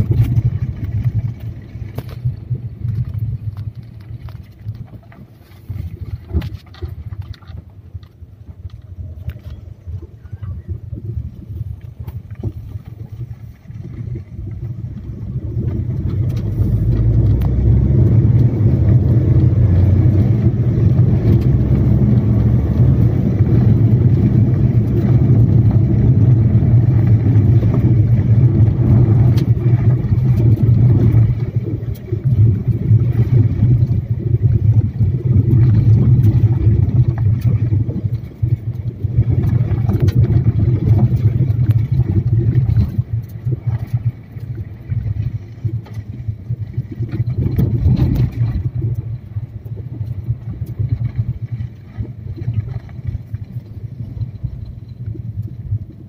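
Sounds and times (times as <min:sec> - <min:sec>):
vehicle rumbling on dirt: 0:00.0 - 0:56.0.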